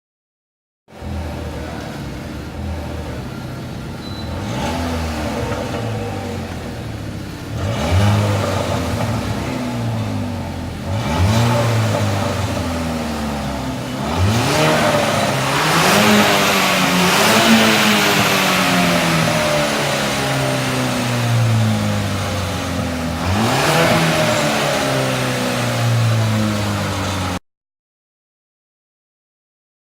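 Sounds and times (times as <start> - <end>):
car engine revving: 0.9 - 27.4.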